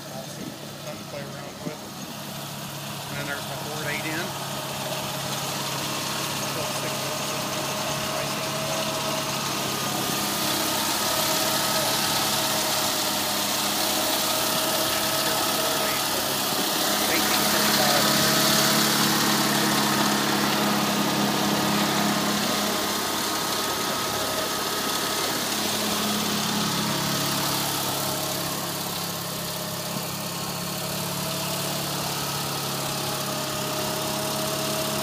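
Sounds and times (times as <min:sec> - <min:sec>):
garden tractor engine idling: 0:00.0 - 0:35.0.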